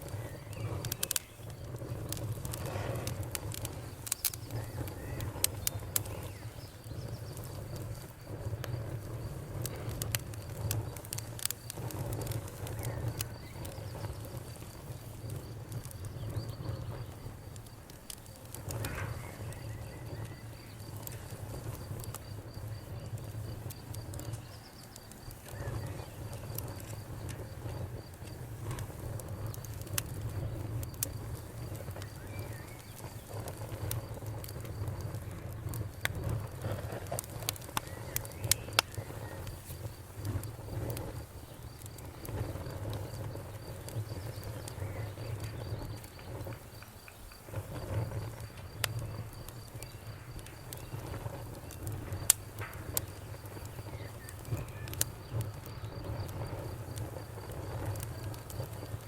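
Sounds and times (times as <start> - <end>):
bonfire crackling and popping: 0.0 - 59.0
crickets chirping: 0.0 - 59.0
low fire rumble: 0.0 - 59.0.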